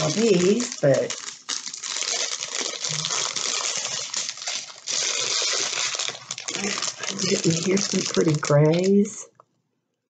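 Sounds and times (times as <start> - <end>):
plastic bags crinkling: 0.0 - 9.4
plastic beads rattling in bags: 0.0 - 9.4.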